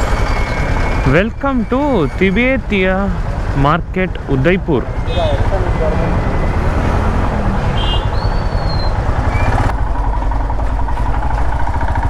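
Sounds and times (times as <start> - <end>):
motorcycle engine running: 0.0 - 12.0
street noise: 0.0 - 12.0.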